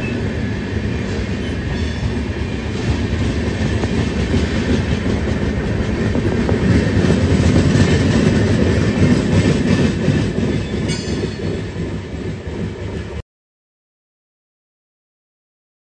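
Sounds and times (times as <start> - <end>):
train passing with heavy rumble: 0.0 - 13.2.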